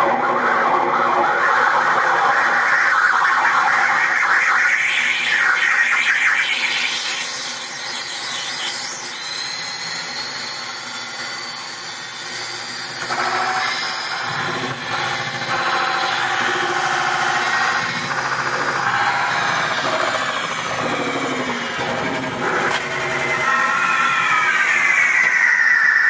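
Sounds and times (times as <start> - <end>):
harsh electronic feedback noise: 0.0 - 26.0
high whistling tones: 0.0 - 26.0.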